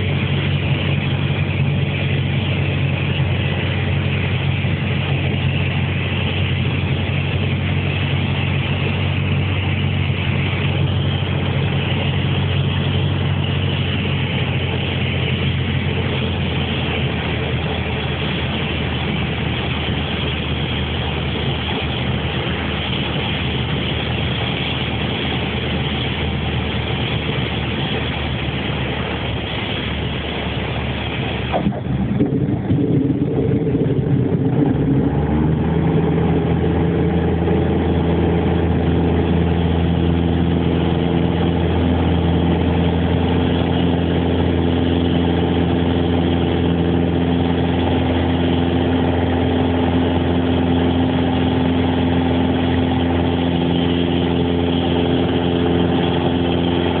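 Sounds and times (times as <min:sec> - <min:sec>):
aircraft engine from inside cabin: 0:00.0 - 0:57.0.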